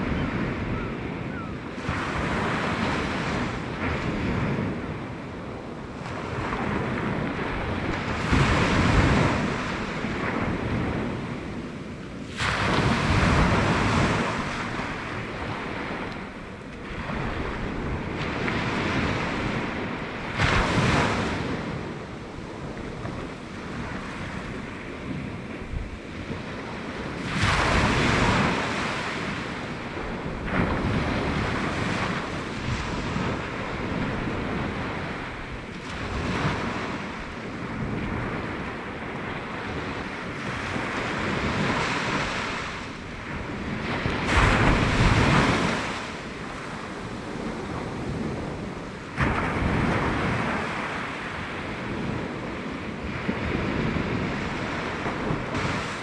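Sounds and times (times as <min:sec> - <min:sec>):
sea waves breaking: 0:00.0 - 0:56.0
wind buffeting microphone: 0:00.0 - 0:56.0.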